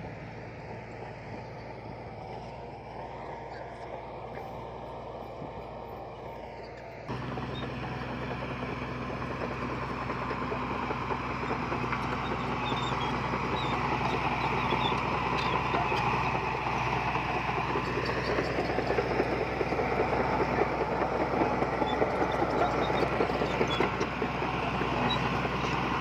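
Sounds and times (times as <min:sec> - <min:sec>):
heavy machinery engine hum: 0:00.0 - 0:26.0
rough mechanical noise: 0:01.5 - 0:26.0.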